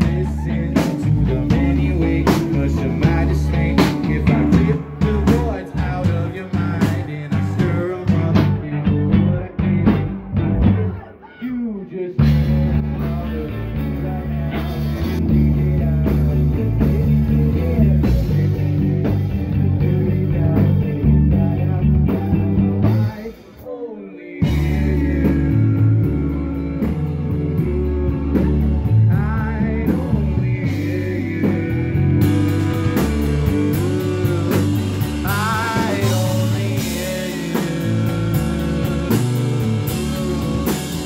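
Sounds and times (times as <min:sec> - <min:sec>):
live rock band playing: 0:00.0 - 0:23.8, 0:24.4 - 0:41.0
person singing: 0:00.0 - 0:41.0.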